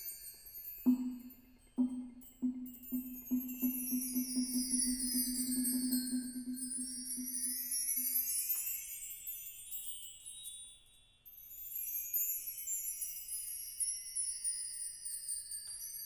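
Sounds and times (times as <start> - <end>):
tinkling metal percussion: 0.0 - 16.0.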